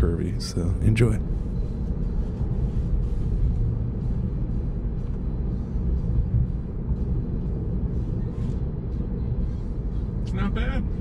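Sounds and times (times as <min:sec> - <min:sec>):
road and tyre noise in car: 0:00.0 - 0:11.0.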